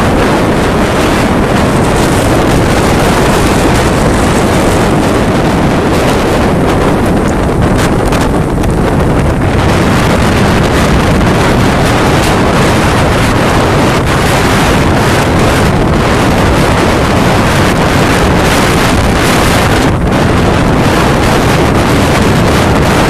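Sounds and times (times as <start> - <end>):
surf crashing: 0.0 - 23.0
wind buffeting microphone: 0.0 - 23.0.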